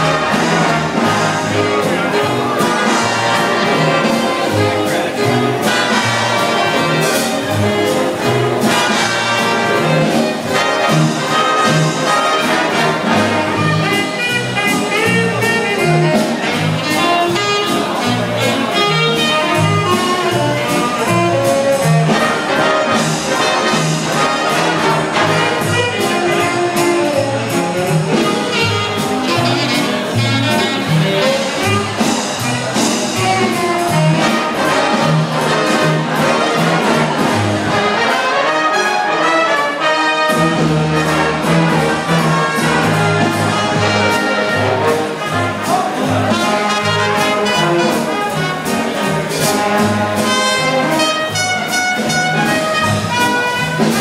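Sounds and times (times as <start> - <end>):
big band playing swing jazz: 0.0 - 54.0.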